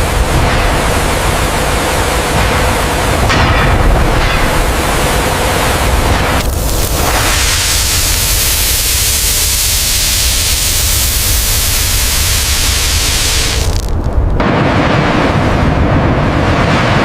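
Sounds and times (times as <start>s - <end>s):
rushing hiss: 0.0s - 14.4s
deep rumble: 0.0s - 17.0s.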